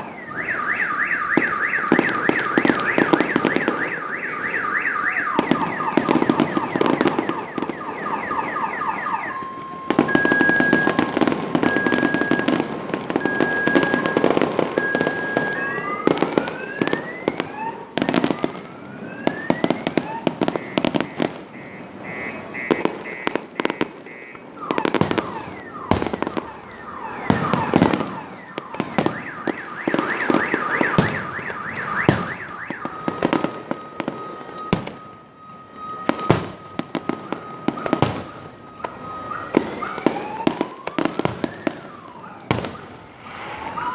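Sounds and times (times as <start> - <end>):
car alarm warbling and beeping: 0.0 - 43.9
fireworks bangs and crackles: 0.0 - 43.9
rising firework whistles: 0.0 - 43.9.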